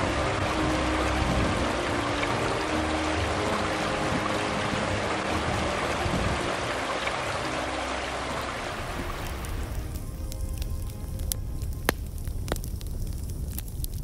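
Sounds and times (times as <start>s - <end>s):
rocky stream rushing: 0.0s - 11.2s.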